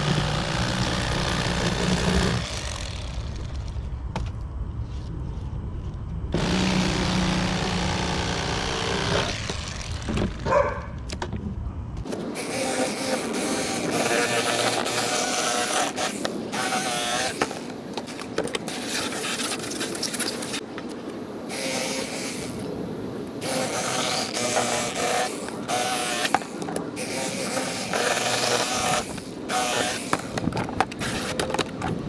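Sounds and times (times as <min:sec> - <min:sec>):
electric knife buzzing: 0:00.0 - 0:03.9, 0:06.3 - 0:10.5, 0:12.1 - 0:20.6, 0:21.5 - 0:22.7, 0:23.4 - 0:31.6.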